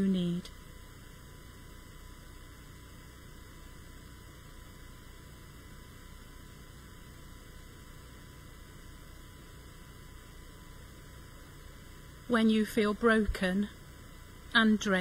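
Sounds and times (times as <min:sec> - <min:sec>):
electrical mains hum: 0:00.0 - 0:15.0
faint microphone hiss: 0:00.0 - 0:15.0.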